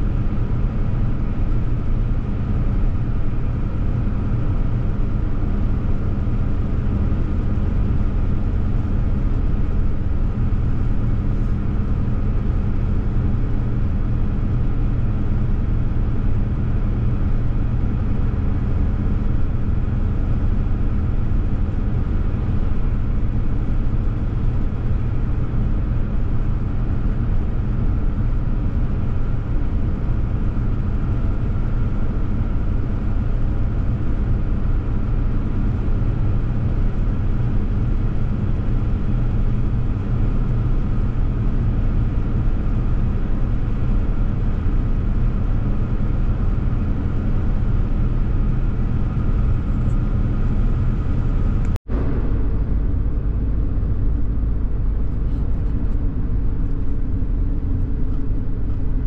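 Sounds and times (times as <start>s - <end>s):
engine drone: 0.0s - 59.0s
road noise inside truck cab: 0.0s - 59.0s.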